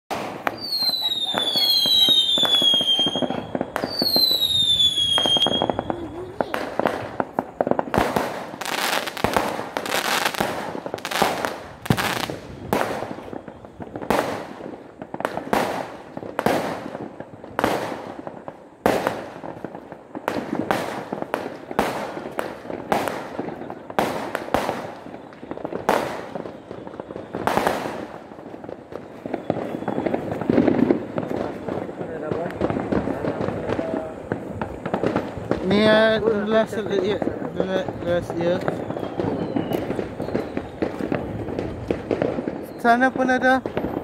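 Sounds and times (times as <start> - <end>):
firework bangs: 0.1 - 44.0.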